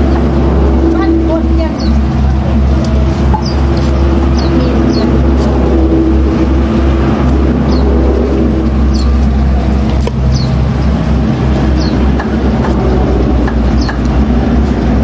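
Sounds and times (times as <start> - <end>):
motor rumbling: 0.0 - 15.0.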